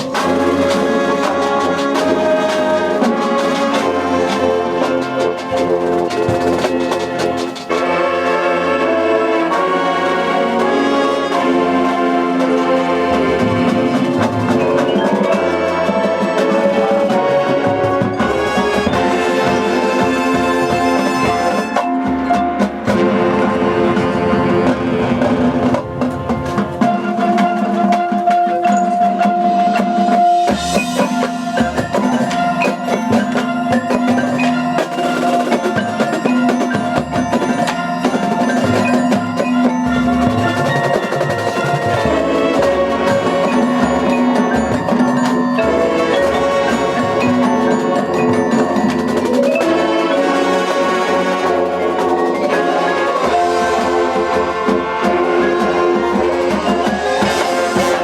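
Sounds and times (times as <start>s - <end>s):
marimba and glockenspiel ringing: 0.0s - 24.6s, 25.9s - 58.0s
busy percussion: 0.0s - 58.0s
marching band wind chords: 0.0s - 58.0s.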